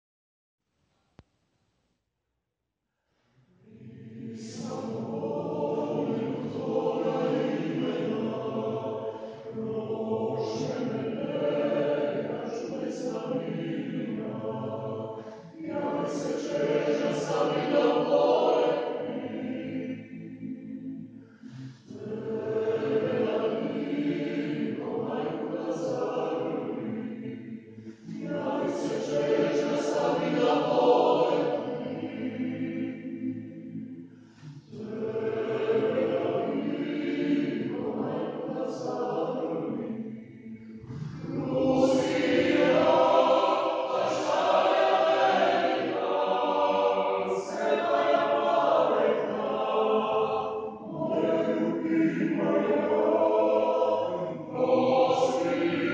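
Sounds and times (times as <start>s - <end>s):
mixed choir singing a cappella: 3.5s - 55.9s.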